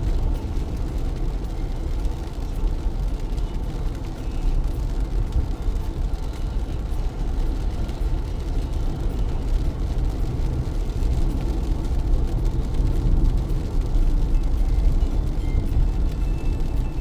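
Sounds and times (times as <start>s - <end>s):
car driving on wet road: 0.0s - 17.0s
heavy rain: 0.0s - 17.0s.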